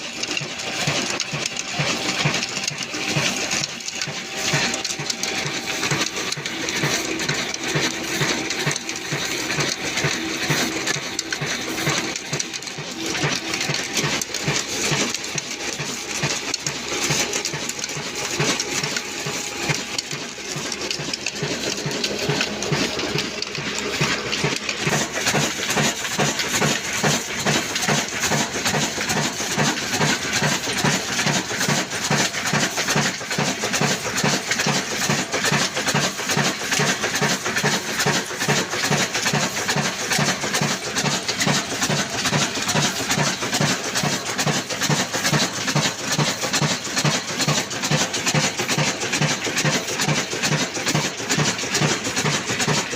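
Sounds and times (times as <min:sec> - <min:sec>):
stationary diesel engine beating: 0:00.0 - 0:52.9.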